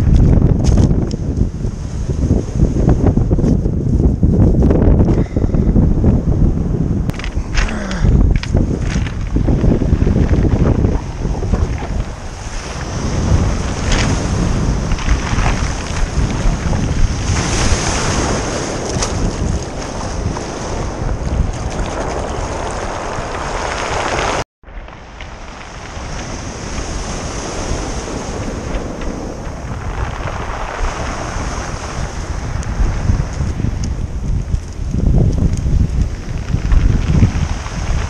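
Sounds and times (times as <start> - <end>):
wind buffeting microphone: 0.0 - 38.0
surf on pebble beach: 7.1 - 38.0.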